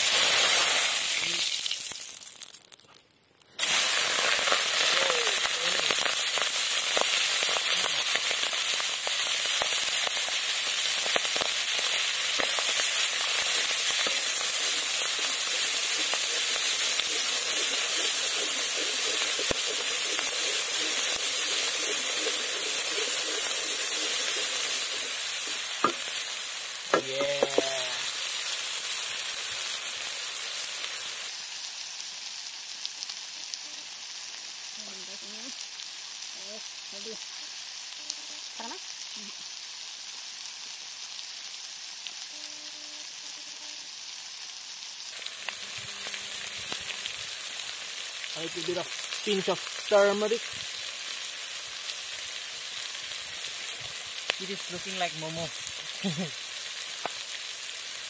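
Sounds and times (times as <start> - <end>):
mussel meat sizzling in hot oil: 0.0 - 58.0.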